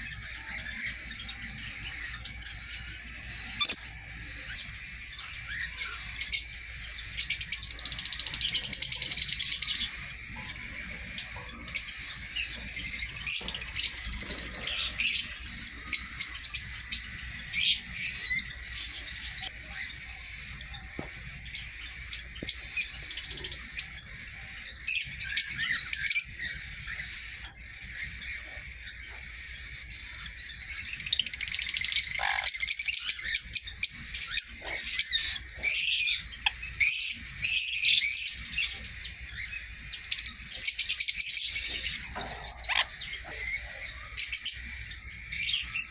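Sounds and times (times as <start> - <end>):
cage birds chirping and trilling: 0.0 - 45.9.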